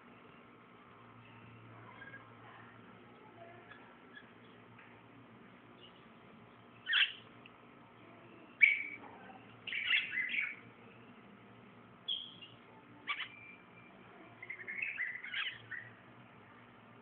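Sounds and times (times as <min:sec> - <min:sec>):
lovebirds chirping: 0:00.0 - 0:04.9, 0:05.6 - 0:11.4, 0:12.0 - 0:16.2.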